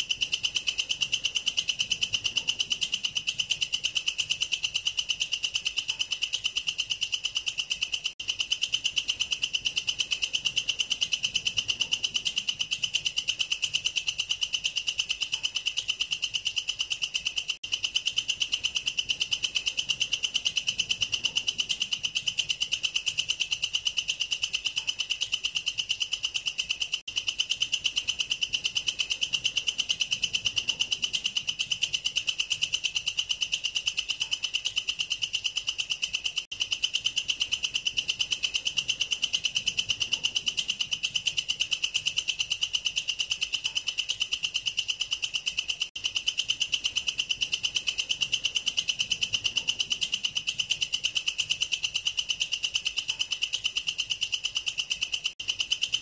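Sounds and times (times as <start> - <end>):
katydid stridulating: 0.0 - 56.0.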